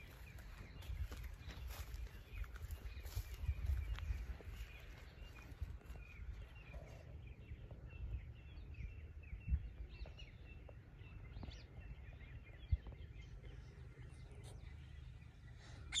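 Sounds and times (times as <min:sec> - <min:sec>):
steady low rumble: 0:00.0 - 0:15.9
small birds chirping: 0:00.0 - 0:16.0.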